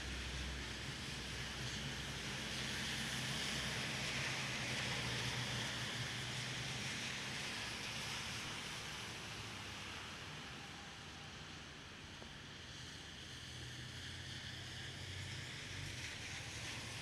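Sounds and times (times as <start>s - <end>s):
rain falling on street: 0.0s - 17.0s.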